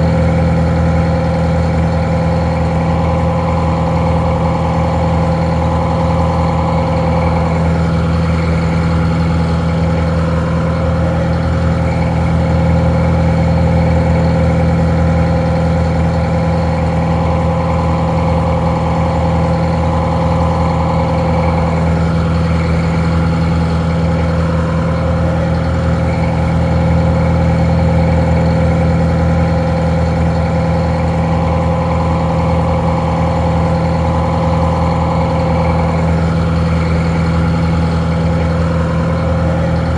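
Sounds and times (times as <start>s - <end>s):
muffled diesel engine idling: 0.0s - 39.9s.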